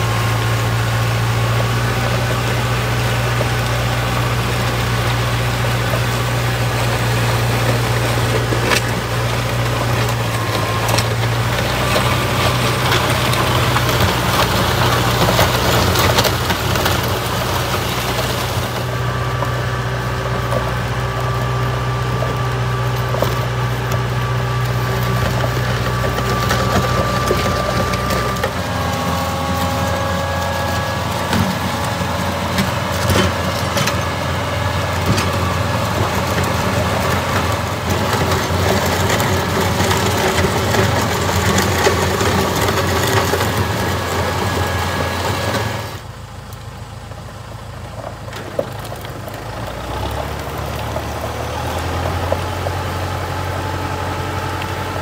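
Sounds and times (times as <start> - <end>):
gravel scraping and crunching: 0.0 - 55.0
tractor engine running: 0.0 - 55.0.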